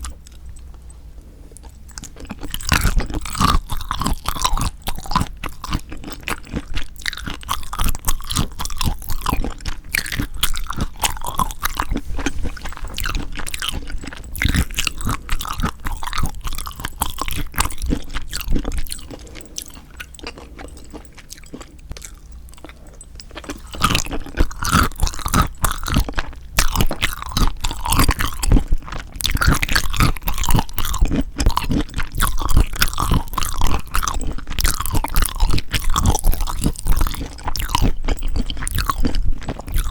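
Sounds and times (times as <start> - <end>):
wet chewing and biting: 1.6 - 39.9.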